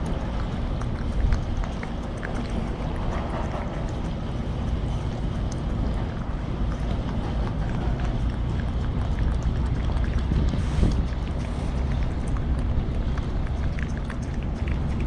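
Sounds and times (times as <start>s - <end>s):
cat licking wet clicks: 0.0s - 15.0s
steady low rumble: 0.0s - 15.0s.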